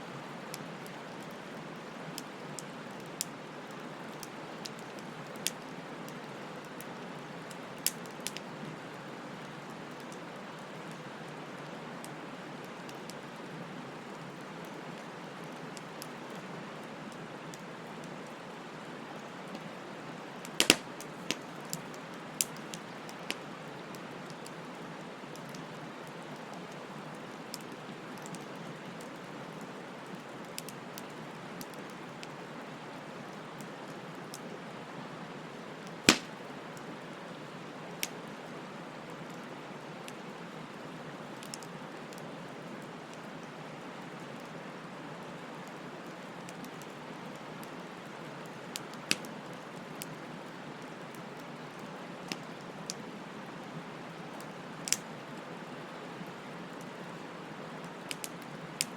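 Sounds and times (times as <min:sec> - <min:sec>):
wood fire crackling: 0:00.2 - 0:34.6, 0:35.4 - 0:38.5, 0:39.3 - 0:43.4, 0:45.7 - 0:53.3, 0:54.2 - 0:55.3, 0:56.1 - 0:58.9.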